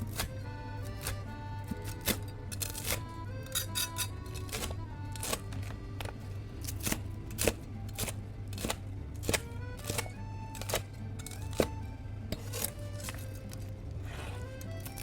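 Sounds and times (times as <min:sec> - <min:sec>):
knife chopping crispy pork: 0:00.0 - 0:15.0.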